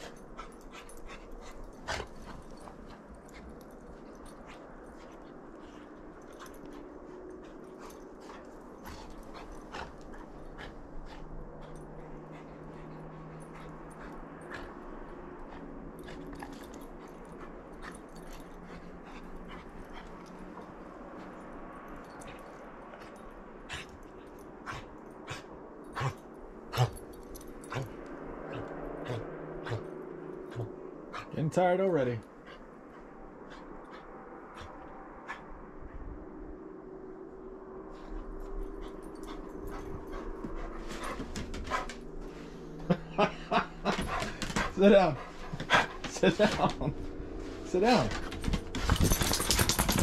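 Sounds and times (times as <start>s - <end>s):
dog panting: 0.0s - 35.6s, 38.0s - 50.0s.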